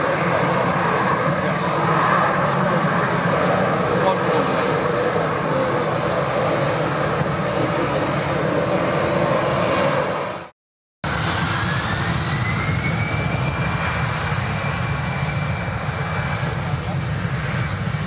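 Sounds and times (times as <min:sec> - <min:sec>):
jet engines spooling up: 0:00.0 - 0:10.5, 0:11.1 - 0:18.0
jet engines running: 0:00.0 - 0:18.0.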